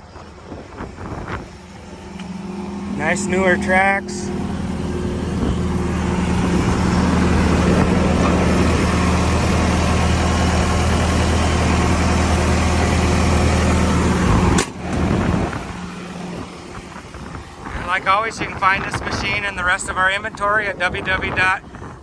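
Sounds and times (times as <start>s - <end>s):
diesel engine idling: 0.1s - 22.0s.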